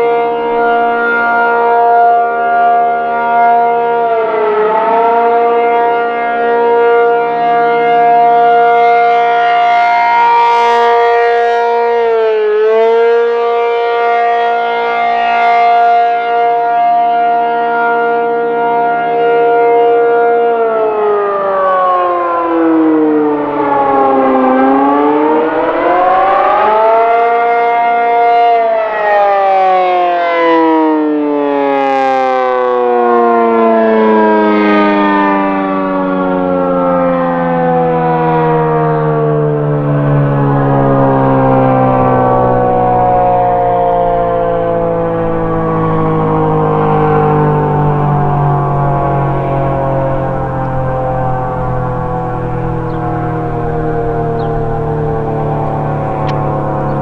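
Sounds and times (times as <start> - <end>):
warning siren wailing: 0.0 - 57.0.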